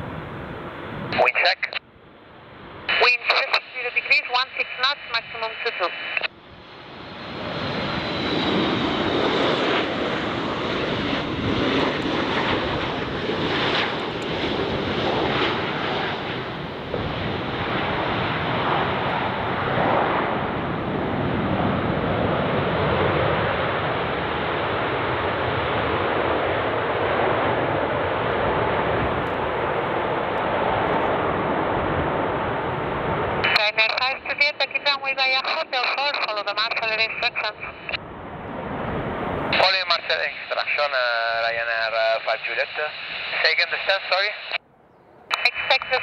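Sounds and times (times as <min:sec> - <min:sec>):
jet engine noise: 0:00.0 - 0:46.0
jet engines whining: 0:00.0 - 0:46.0.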